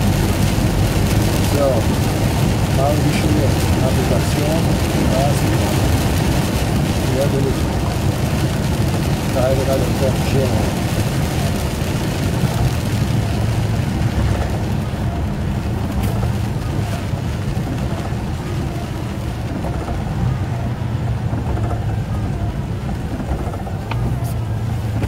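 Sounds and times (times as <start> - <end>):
diesel engine running: 0.0 - 25.0
tyres on wet road: 0.0 - 25.0.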